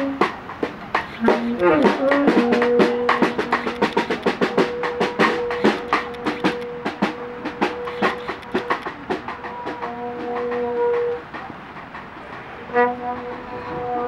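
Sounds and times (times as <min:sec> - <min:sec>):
snare drum strokes: 0:00.0 - 0:14.0.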